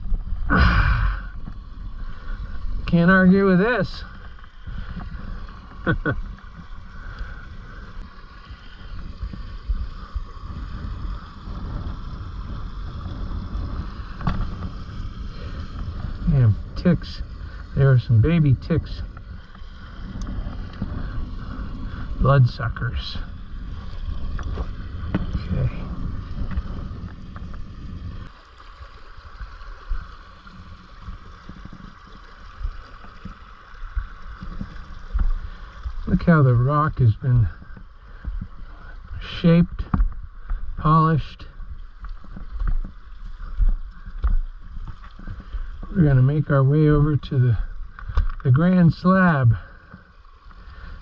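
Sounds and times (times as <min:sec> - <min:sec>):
creek water running: 0:00.0 - 0:51.0
wind buffeting on microphone: 0:00.0 - 0:51.0.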